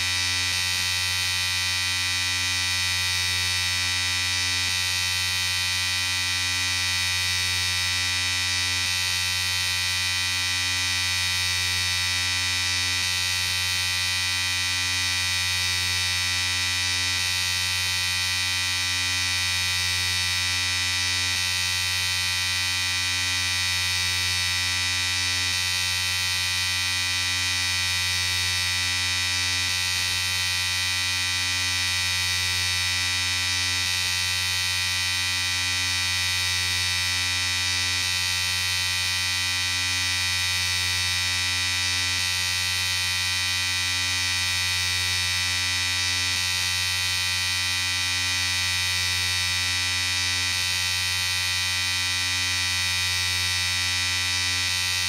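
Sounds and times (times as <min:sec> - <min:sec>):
electric shaver buzzing: 0:00.0 - 0:55.0.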